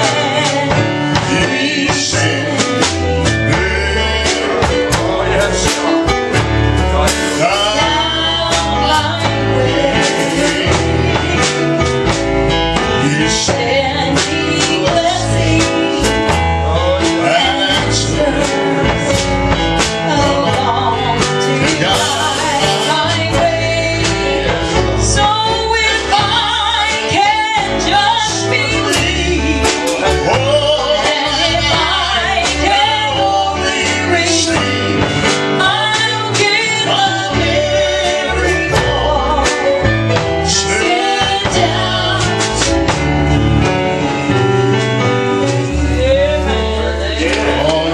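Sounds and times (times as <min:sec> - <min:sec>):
man and woman singing duet: 0:00.0 - 0:44.3, 0:45.4 - 0:47.9
guitar and band backing: 0:00.0 - 0:47.9.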